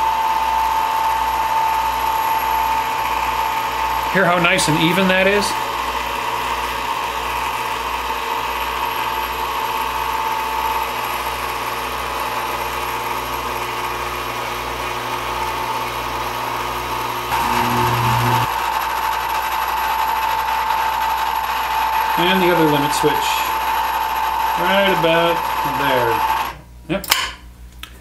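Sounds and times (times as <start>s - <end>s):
motor and gears running: 0.0s - 26.6s.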